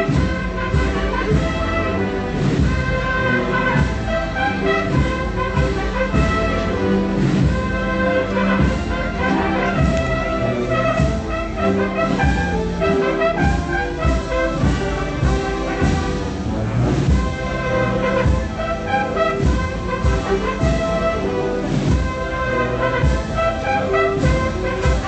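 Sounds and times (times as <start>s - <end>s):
brass melody: 0.0s - 25.0s
steady drum beat: 0.0s - 25.0s.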